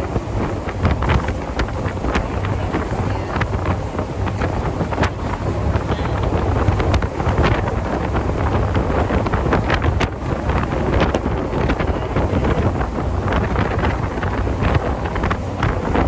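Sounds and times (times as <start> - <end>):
boat and water rushing: 0.0 - 16.0
wind buffeting microphone: 0.0 - 16.0.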